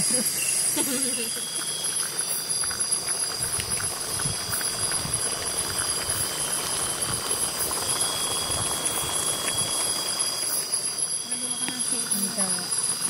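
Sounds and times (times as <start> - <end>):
forest insects droning: 0.0 - 13.0
campfire crackling and popping: 0.7 - 13.0.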